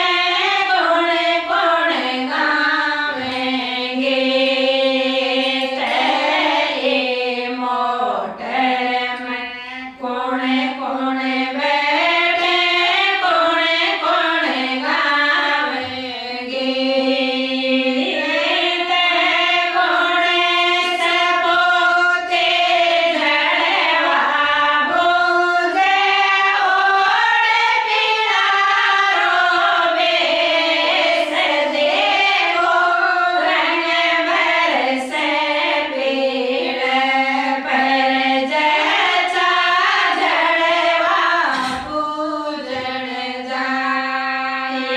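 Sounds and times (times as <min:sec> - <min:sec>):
group of women singing: 0:00.0 - 0:44.9.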